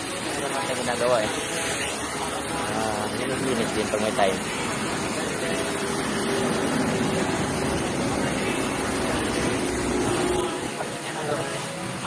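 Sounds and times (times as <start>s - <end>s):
pressure washer motor drone: 0.0s - 12.0s
water spraying on concrete: 0.0s - 12.0s.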